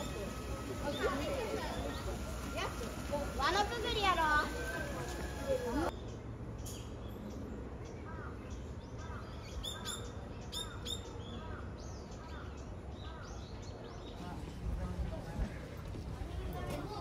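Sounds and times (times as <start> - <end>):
small birds chirping: 0.0 - 16.2
low outdoor background noise: 0.0 - 17.0.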